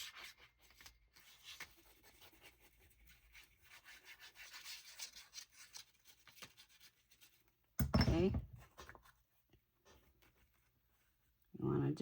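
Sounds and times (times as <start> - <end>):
scratching and rubbing on paper: 0.0 - 7.6, 8.7 - 11.4.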